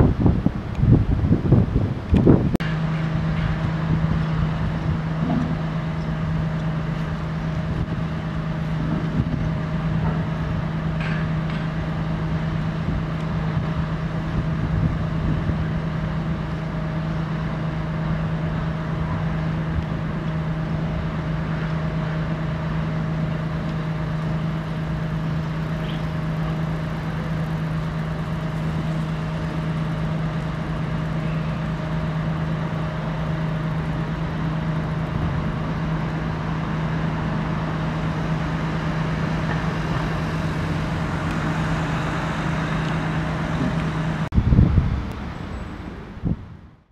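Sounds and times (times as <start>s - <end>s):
constant low hum: 0.0s - 46.9s
rumble of road traffic: 0.0s - 46.9s.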